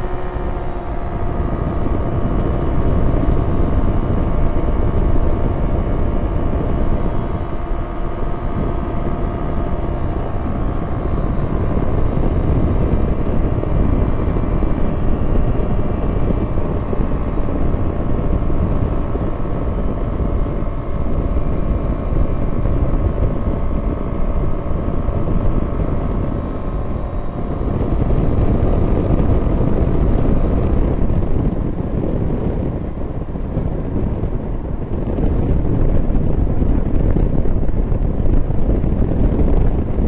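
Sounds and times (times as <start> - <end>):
light aircraft engine drone: 0.0 - 40.0
wind rushing: 0.0 - 40.0.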